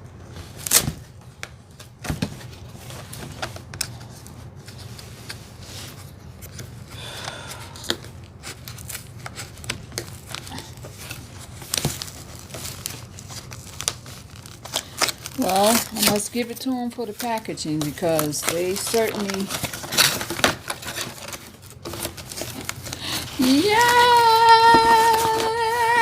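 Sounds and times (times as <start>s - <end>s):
packaging rustling and tearing: 0.3s - 26.0s.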